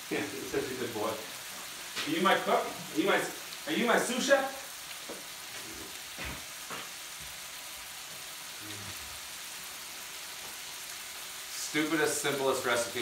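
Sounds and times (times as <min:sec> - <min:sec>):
fish sizzling in a skillet: 0:00.0 - 0:13.0.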